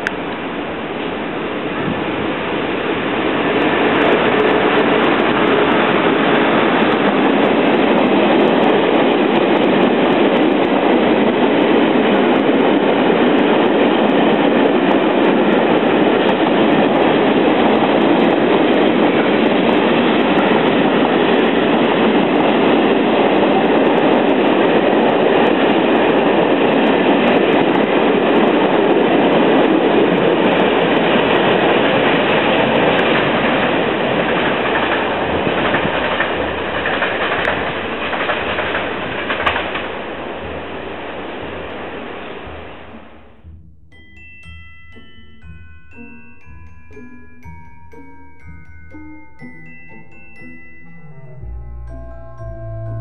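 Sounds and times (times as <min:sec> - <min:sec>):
freight train wheels rolling on rails: 0:00.0 - 0:50.9.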